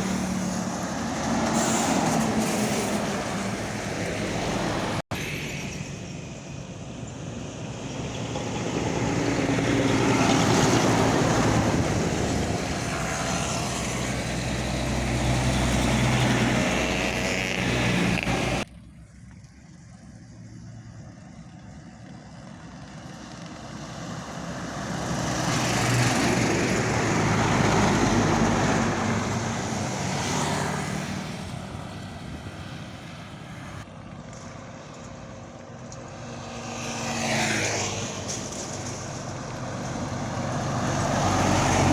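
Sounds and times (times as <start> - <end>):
truck driving past: 0.0 - 18.7, 20.7 - 41.9.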